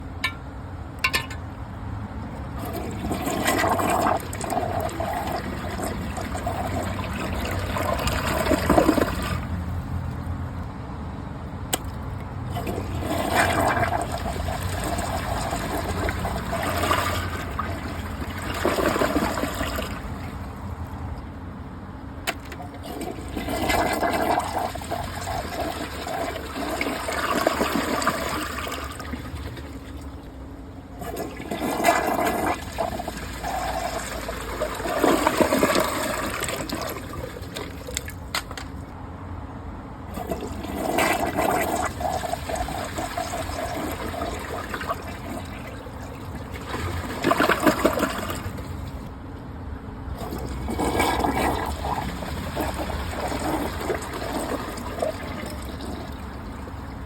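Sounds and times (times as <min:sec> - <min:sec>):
toilet tank refilling: 0:02.5 - 0:09.6, 0:12.5 - 0:21.0, 0:22.2 - 0:38.7, 0:40.1 - 0:49.1, 0:50.1 - 0:57.0
toilet flushing: 0:02.5 - 0:09.7, 0:12.5 - 0:21.0, 0:22.3 - 0:38.2, 0:40.0 - 0:49.1, 0:50.1 - 0:57.0.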